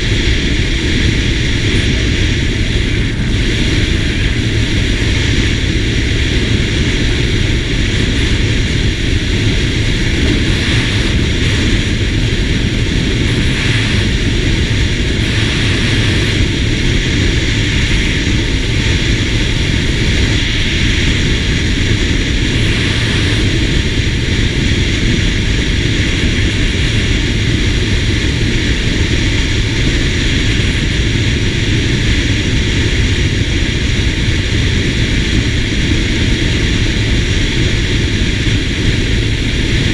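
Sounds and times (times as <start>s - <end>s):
scooter engine drone: 0.0s - 39.9s
wind rushing over microphone: 0.0s - 39.9s.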